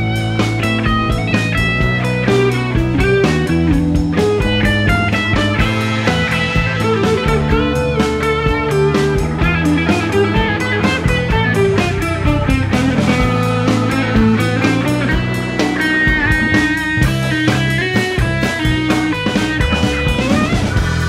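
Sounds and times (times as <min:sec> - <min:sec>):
drum kit: 0:00.0 - 0:21.0
electric bass: 0:00.0 - 0:21.0
electric guitar lead line: 0:00.0 - 0:21.0.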